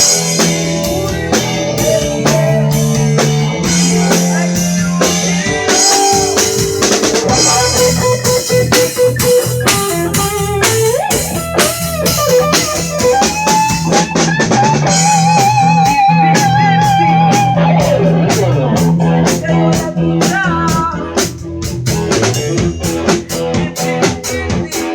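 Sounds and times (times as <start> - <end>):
lead guitar with pitch slides: 0.0 - 20.2
low bass line: 0.0 - 24.6
drum kit: 0.0 - 24.9.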